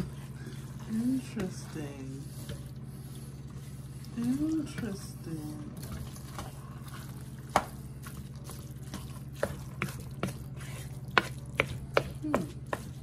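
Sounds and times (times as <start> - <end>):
spoon stirring thick filling: 0.0 - 13.0
steady low hum: 0.0 - 13.0.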